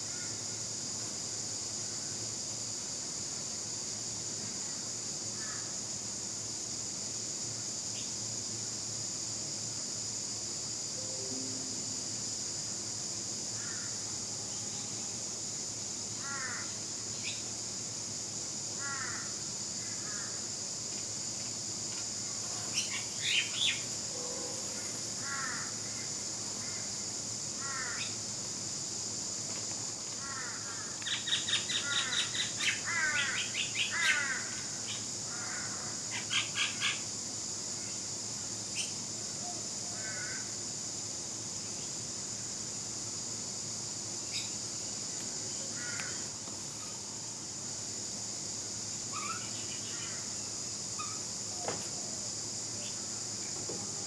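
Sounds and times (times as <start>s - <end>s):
high-pitched insect drone: 6.7s - 54.0s.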